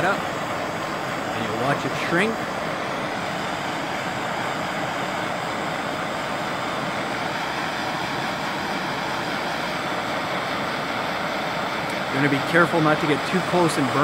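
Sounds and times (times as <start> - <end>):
gas torch burning: 0.0 - 14.0.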